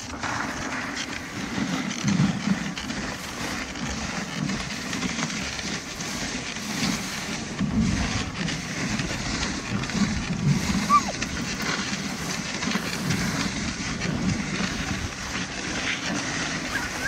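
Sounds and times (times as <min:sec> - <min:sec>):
sled runners hissing on snow: 0:00.0 - 0:17.0.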